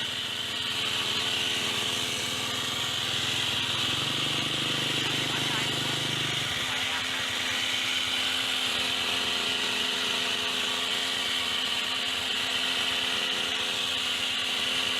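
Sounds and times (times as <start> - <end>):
hedge trimmer engine running: 0.0 - 14.9.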